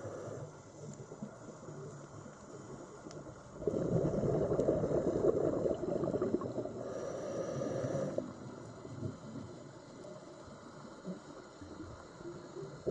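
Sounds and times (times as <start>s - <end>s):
underwater bubbles gurgling: 0.2s - 12.9s
underwater hiss: 2.5s - 12.9s.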